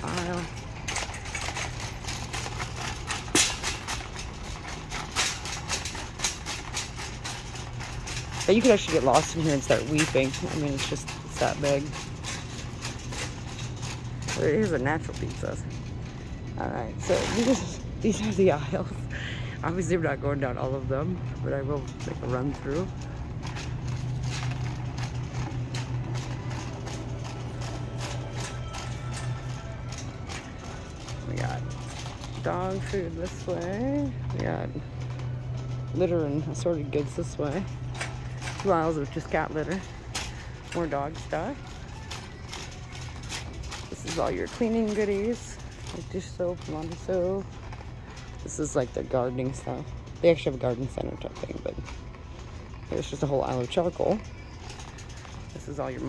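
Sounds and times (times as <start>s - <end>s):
steady low hum: 0.0s - 56.0s
wire shopping cart rattling: 0.0s - 56.0s.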